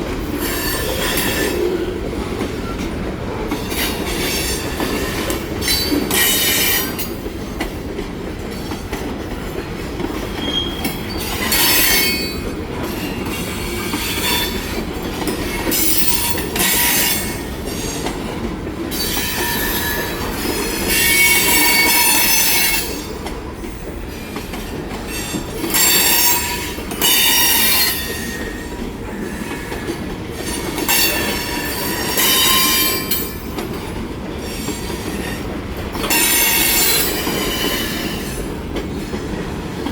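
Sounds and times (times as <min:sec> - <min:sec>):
railway wheels rumbling on rails: 0:00.0 - 0:39.9.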